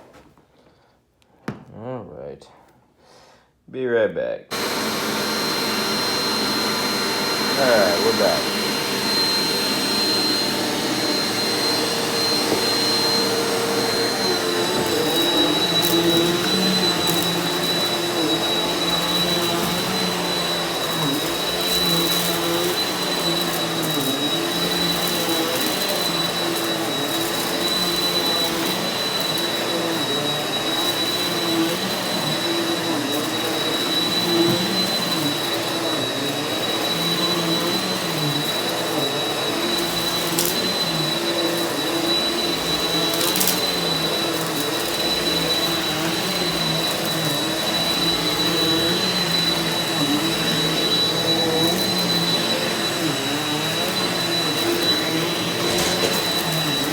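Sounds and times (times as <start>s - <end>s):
vacuum cleaner running over carpet: 4.5s - 56.9s.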